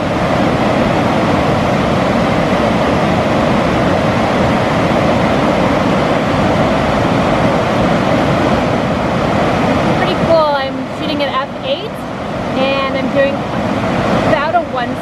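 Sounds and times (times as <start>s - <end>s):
waterfall rushing over rock: 0.0s - 15.0s.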